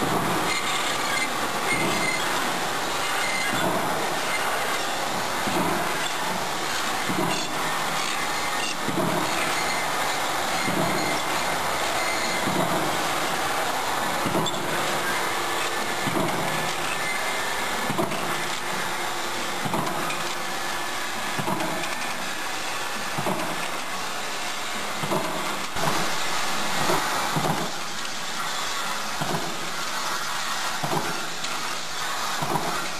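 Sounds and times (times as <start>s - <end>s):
roll-forming machine running: 0.0s - 32.9s.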